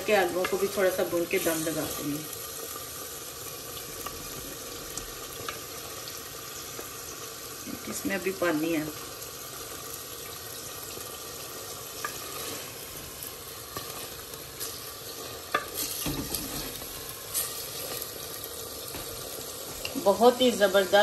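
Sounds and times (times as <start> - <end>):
meat sizzling in a pot: 0.0 - 21.0.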